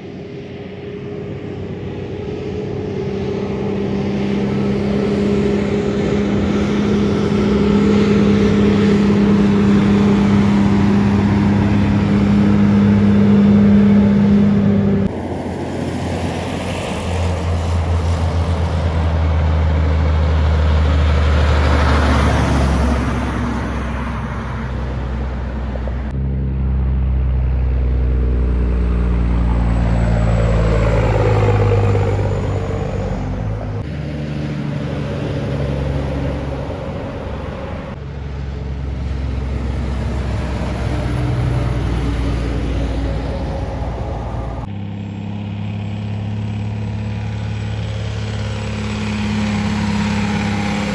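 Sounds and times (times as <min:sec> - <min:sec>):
trucks driving past: 0:00.0 - 0:50.9.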